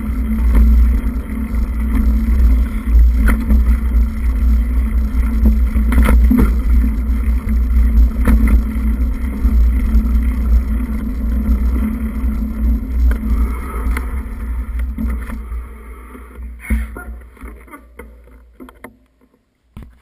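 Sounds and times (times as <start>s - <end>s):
wind rumbling on microphone: 0.0s - 17.6s
steady low hum: 0.0s - 20.0s.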